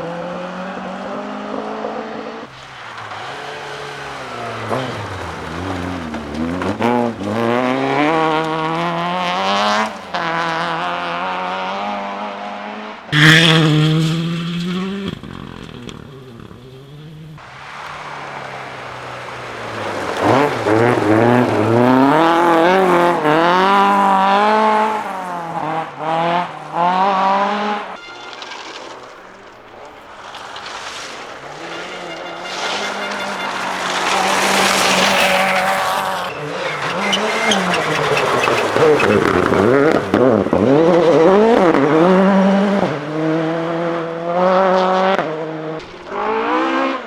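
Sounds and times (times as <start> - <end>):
rally car engines revving: 0.0 - 47.0.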